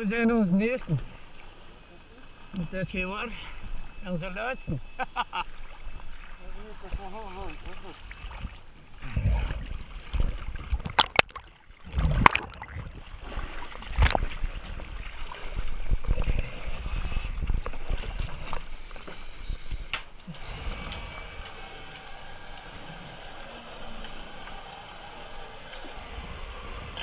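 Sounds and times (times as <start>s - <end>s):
sea water splashing and sloshing: 0.3s - 4.5s, 5.2s - 27.0s.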